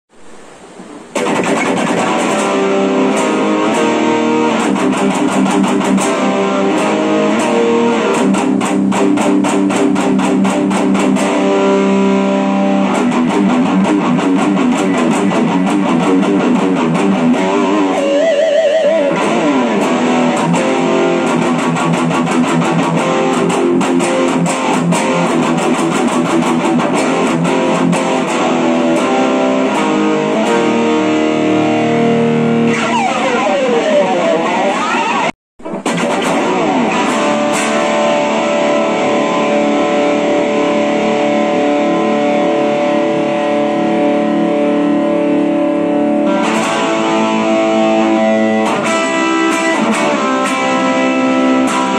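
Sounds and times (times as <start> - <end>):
electric guitar playing: 0.1 - 51.9.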